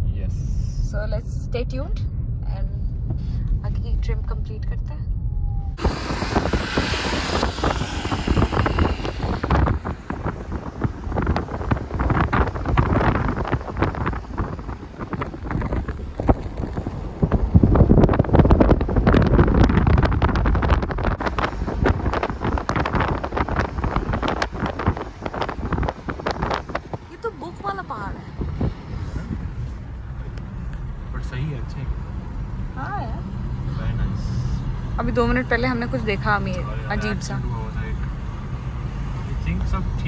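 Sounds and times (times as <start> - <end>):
car rumbling along road: 0.0 - 40.0
wind buffeting microphone: 0.8 - 40.0.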